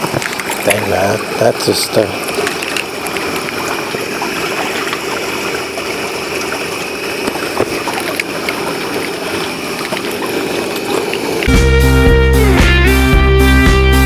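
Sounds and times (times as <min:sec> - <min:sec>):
runoff water flowing: 0:00.0 - 0:13.2.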